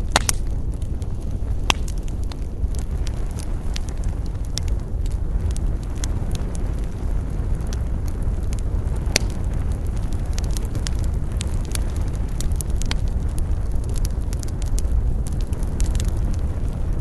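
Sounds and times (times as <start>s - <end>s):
campfire crackling and popping: 0.0s - 17.0s
low rumble of fire: 0.0s - 17.0s.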